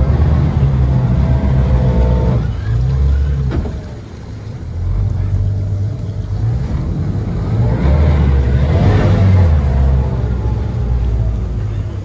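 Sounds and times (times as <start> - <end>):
outboard engines running: 0.0 - 12.0
prop wash churning water: 0.0 - 12.0.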